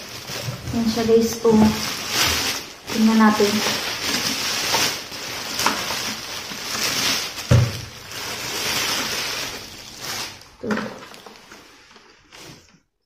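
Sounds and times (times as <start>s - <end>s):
plastic wrapping crinkling: 0.0s - 12.8s.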